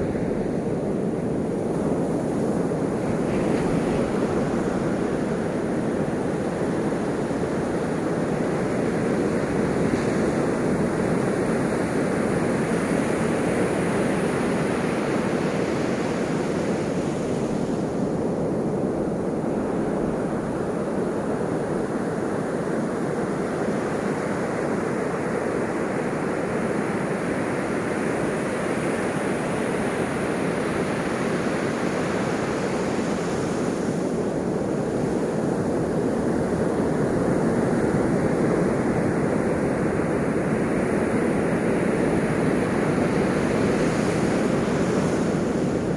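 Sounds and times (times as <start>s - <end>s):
ocean waves washing on shore: 0.0s - 45.9s.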